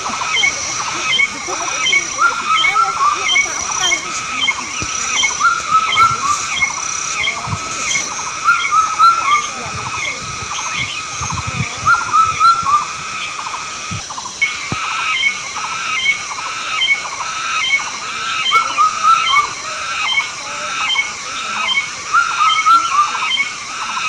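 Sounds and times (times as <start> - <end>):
chorus of short animal calls: 0.0 - 24.0
steady high-pitched hiss: 0.0 - 24.0.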